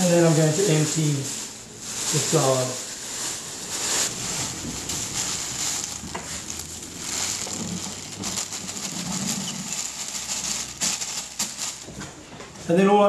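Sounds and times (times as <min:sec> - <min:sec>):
paper packet rustling: 0:00.0 - 0:12.3.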